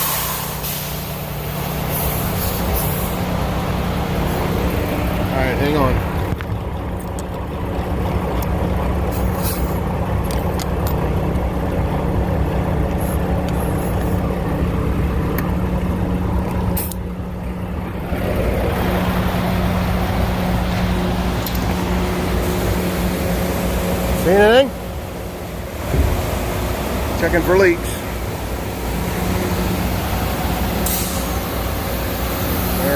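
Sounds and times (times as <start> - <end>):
truck engine running: 0.0 - 32.9.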